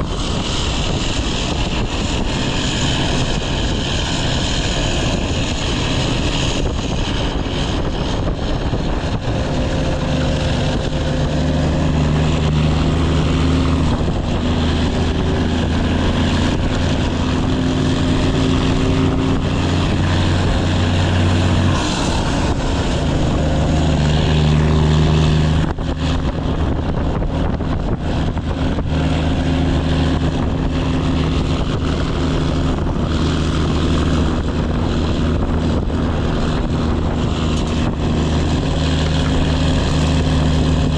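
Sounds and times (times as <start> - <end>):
diesel truck exhaust drone: 0.0 - 40.9.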